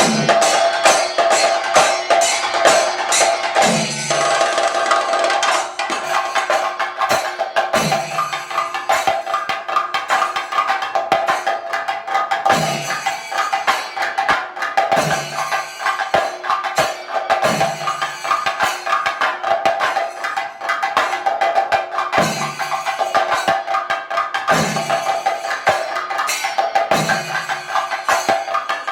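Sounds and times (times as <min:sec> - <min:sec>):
drums played fast with sticks: 0:00.0 - 0:28.9
ringing hand cymbals: 0:00.0 - 0:28.9.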